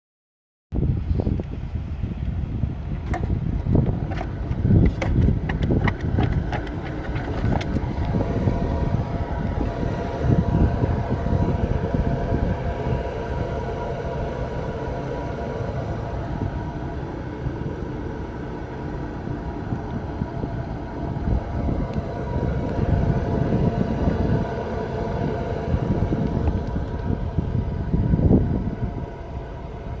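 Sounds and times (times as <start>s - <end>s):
wheel bearing droning hum: 0.8s - 30.0s.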